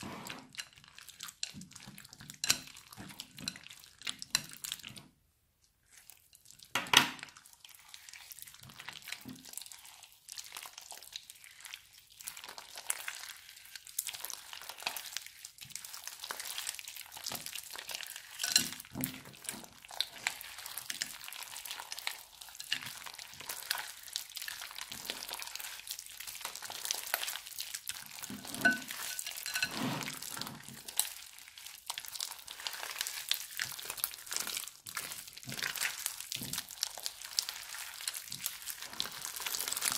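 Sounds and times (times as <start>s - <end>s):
crunchy slime crackling and squelching: 5.8s - 39.9s.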